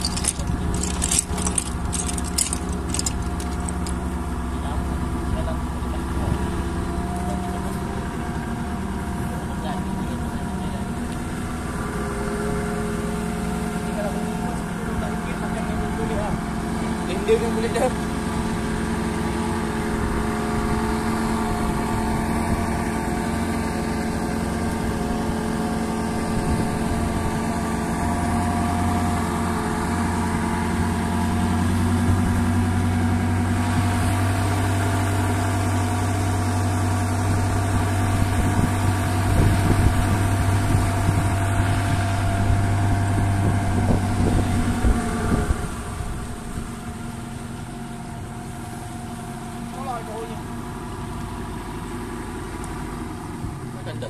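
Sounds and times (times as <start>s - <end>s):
small boat engine running: 0.0s - 54.0s.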